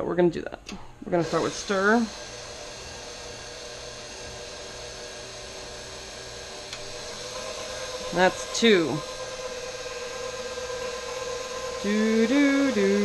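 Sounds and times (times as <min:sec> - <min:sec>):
stand mixer motor humming: 0:01.1 - 0:13.0.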